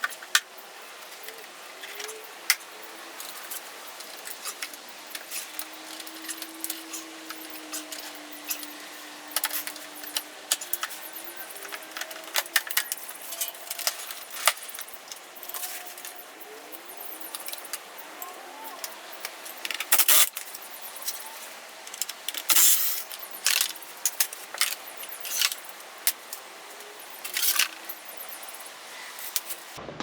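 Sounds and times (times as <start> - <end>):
metal tools and bolts clinking: 0.0 - 29.8.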